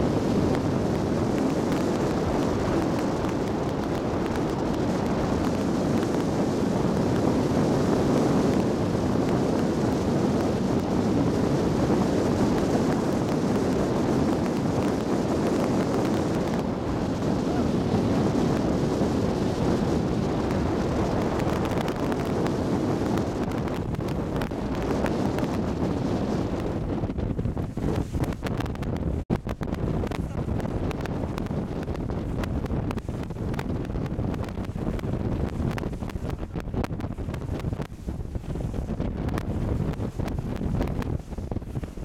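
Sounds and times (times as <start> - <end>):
boat engine rumble: 0.0 - 42.0
wind buffeting microphone: 0.0 - 42.0.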